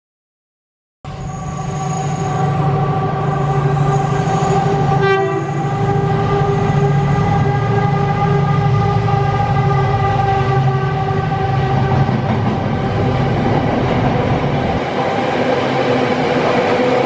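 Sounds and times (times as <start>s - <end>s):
diesel locomotive engine drone: 1.1s - 17.0s.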